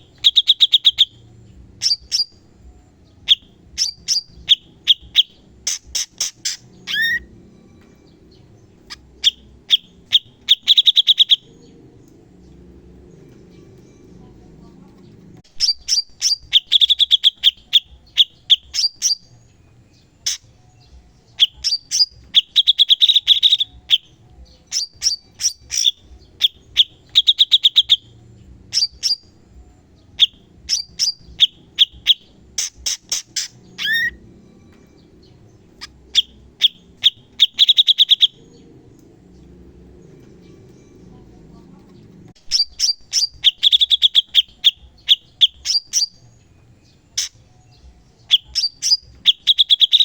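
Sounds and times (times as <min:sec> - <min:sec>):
bird singing rattling trills: 0:00.0 - 0:50.0.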